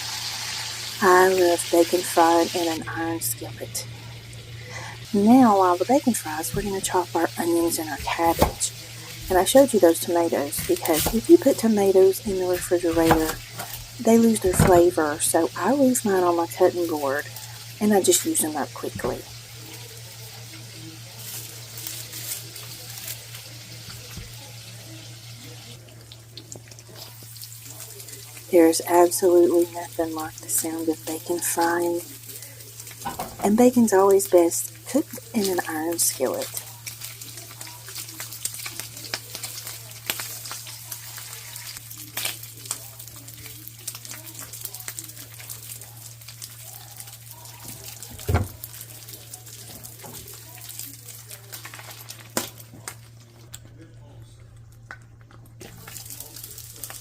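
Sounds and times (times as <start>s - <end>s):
bacon sizzling in a skillet: 0.0s - 53.7s, 54.9s - 57.0s.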